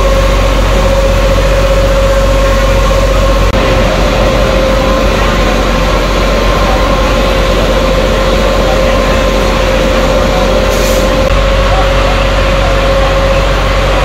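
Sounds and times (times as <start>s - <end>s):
fire engine pump running: 0.0s - 14.0s.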